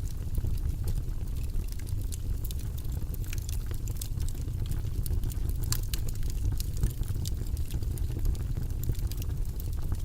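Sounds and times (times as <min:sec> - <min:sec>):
logs crackling and popping: 0:00.0 - 0:10.0
low rumble of flames: 0:00.0 - 0:10.0.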